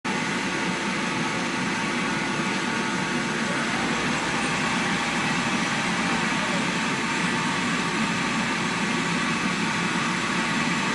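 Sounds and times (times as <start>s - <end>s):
dryer blower rushing: 0.1s - 10.9s.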